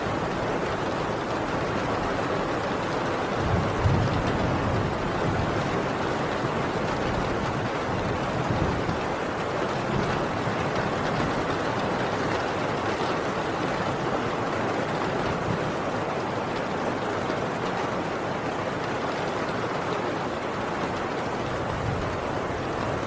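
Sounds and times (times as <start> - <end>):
heavy rain on a tin roof: 0.0 - 23.0.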